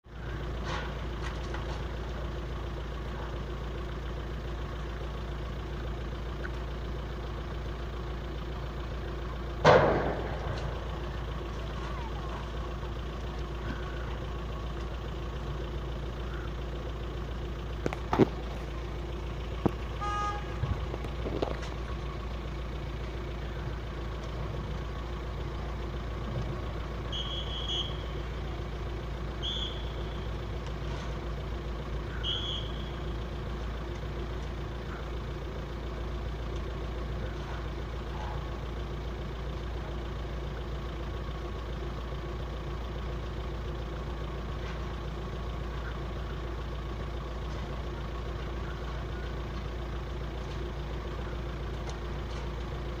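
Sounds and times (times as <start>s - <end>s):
vehicle engines idling: 0.0s - 53.0s.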